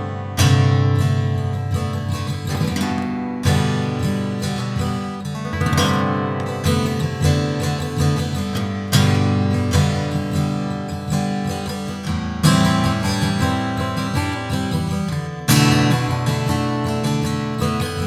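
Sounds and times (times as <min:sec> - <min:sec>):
acoustic guitar strummed chords: 0:00.0 - 0:18.0.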